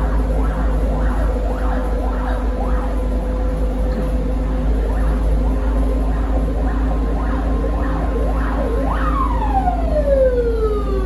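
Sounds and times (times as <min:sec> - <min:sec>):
electrical hum: 0:00.0 - 0:11.0
rising and falling whine: 0:00.0 - 0:11.0.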